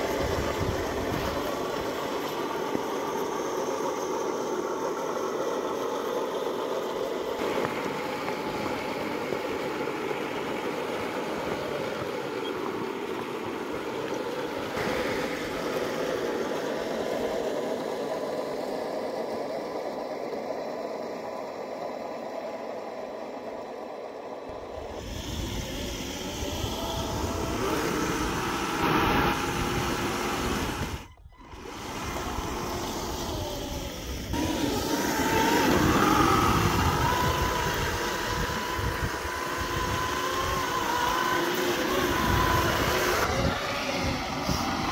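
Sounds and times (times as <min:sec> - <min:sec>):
model tank mechanical drone: 0:00.0 - 0:44.9.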